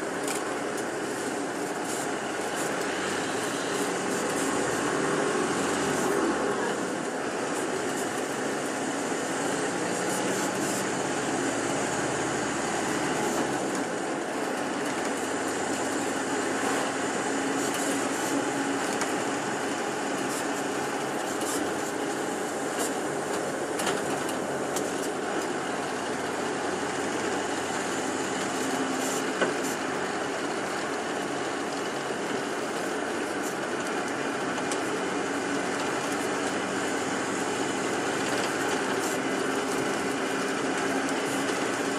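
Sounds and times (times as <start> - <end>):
bus engine and road noise: 0.0 - 41.9.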